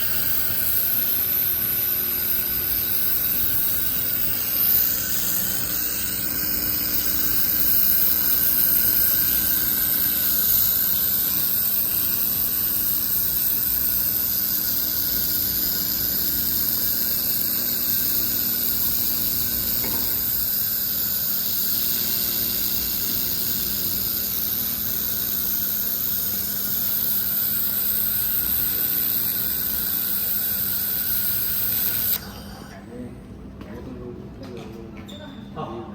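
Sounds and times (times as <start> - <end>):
laser welding machine hissing: 0.0 - 33.2.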